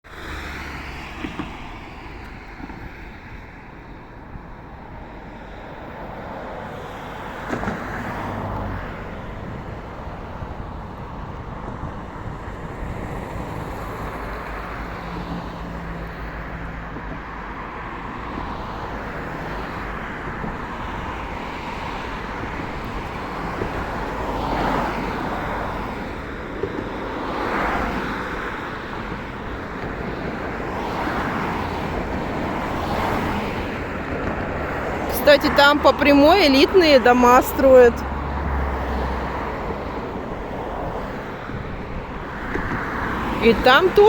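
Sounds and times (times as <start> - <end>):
cars passing: 0.0 - 44.0
road traffic rush: 0.0 - 44.0.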